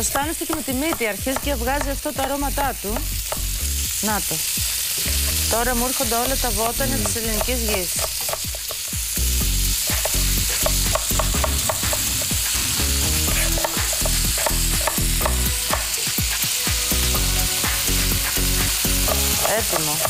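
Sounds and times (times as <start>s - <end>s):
pork sizzling in frying pan: 0.0s - 20.0s.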